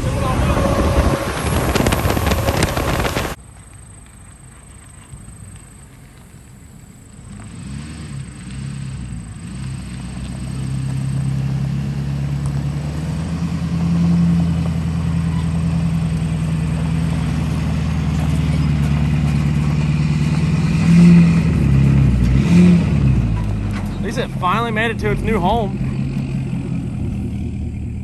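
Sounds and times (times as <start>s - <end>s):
pickup truck engine under load: 0.0s - 4.1s, 4.7s - 28.0s.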